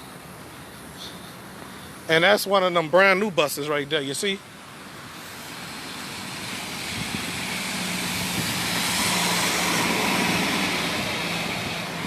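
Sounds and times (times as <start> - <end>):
bus engine and tyre noise: 0.0 - 12.0.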